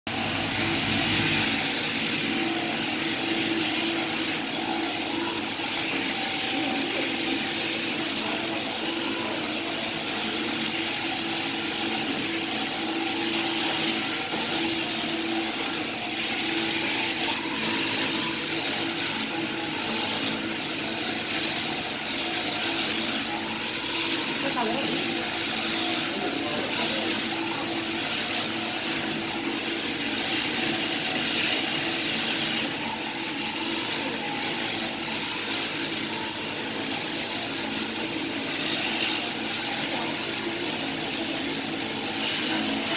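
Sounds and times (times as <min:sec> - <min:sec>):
sheep shearing handpiece humming: 0:00.1 - 0:42.9.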